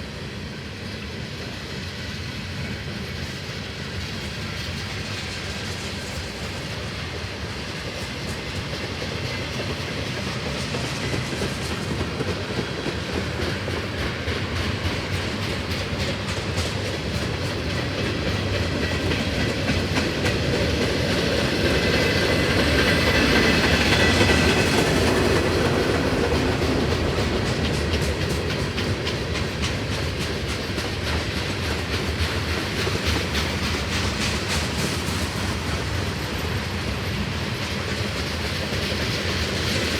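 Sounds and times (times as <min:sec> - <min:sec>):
steel wheels clattering over rail joints: 0:01.2 - 0:39.9.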